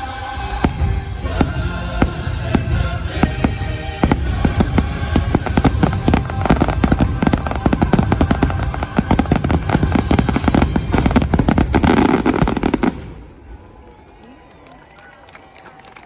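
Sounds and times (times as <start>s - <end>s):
music: 0.0s - 12.8s
fireworks bangs and crackles: 0.3s - 13.7s.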